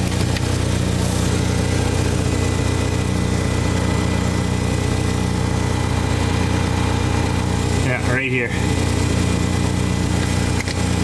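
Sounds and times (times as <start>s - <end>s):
engine idling exhaust puffing: 0.0s - 11.0s.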